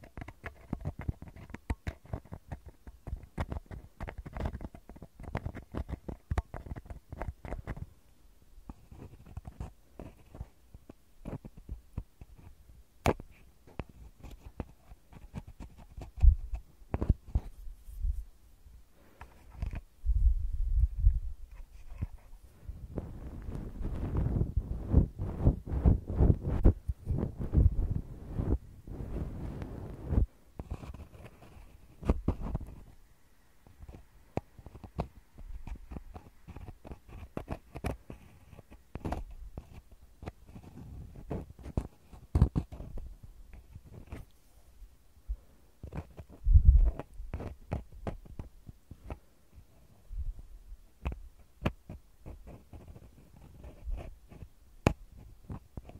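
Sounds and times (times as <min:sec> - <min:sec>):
ear pick scratching a microphone grille: 0:00.0 - 0:08.0, 0:08.7 - 0:18.4, 0:19.2 - 0:33.0, 0:33.6 - 0:44.8, 0:45.8 - 0:50.4, 0:51.0 - 0:55.9.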